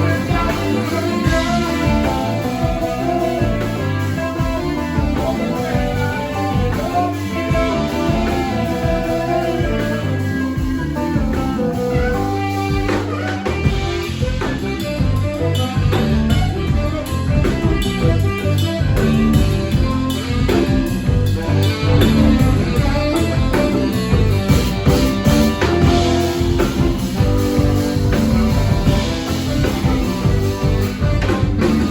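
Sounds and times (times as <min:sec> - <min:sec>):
blues-rock guitar: 0:00.0 - 0:31.9
drum kit: 0:00.0 - 0:31.9.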